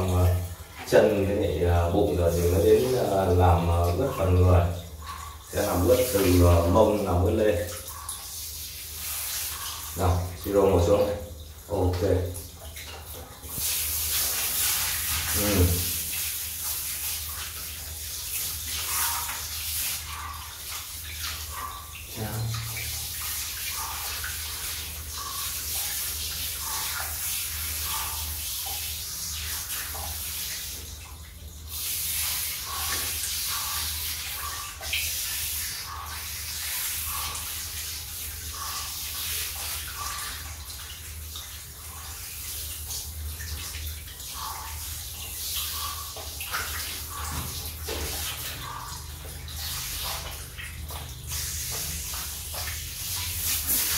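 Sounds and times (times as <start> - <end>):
shower water spraying on dog: 0.0 - 53.9.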